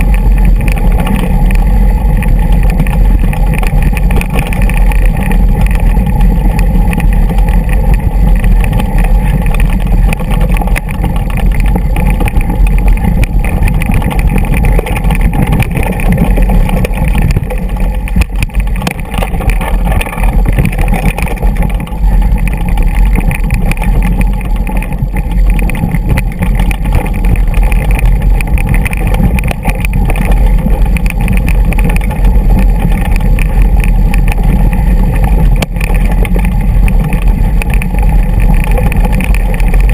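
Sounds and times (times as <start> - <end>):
bike jolting over stones: 0.0 - 39.9
muffled wind rumble: 0.0 - 39.9.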